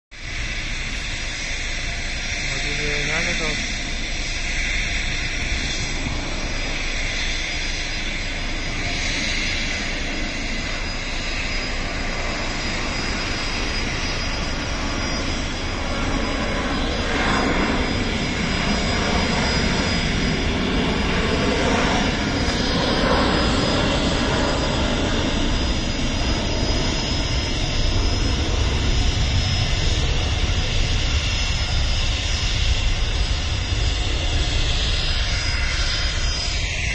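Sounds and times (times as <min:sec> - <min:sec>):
jet airliner taking off: 0:00.1 - 0:36.9.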